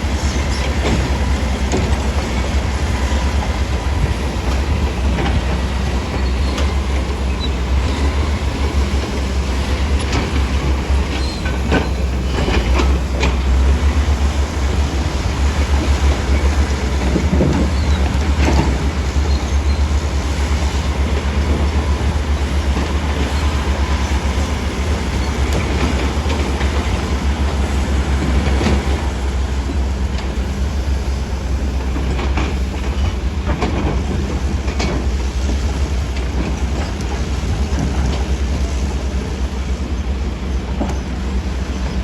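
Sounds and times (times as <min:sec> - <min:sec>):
heavy machinery diesel rumble: 0:00.0 - 0:42.0.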